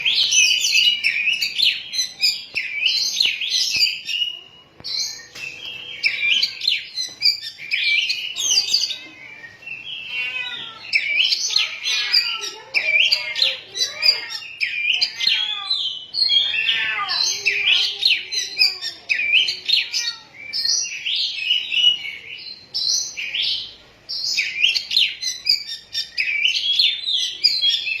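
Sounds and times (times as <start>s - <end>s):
bird singing whistles and chirps: 0.0s - 28.0s.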